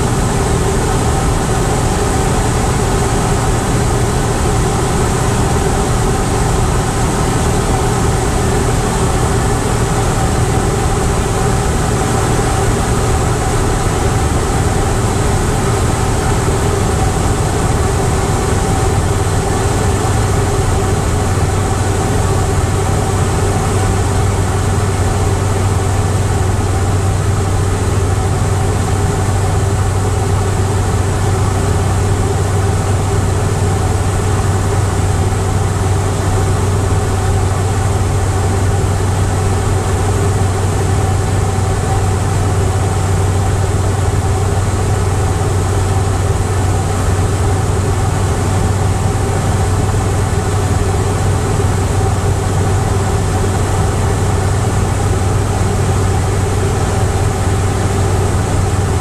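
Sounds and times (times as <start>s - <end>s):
aircraft engine and propeller droning: 0.0s - 59.0s.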